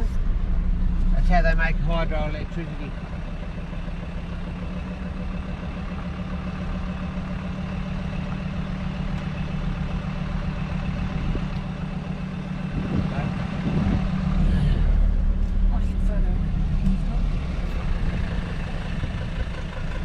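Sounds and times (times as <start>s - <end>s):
engine droning from inside cab: 0.0s - 20.0s
road noise: 0.0s - 20.0s.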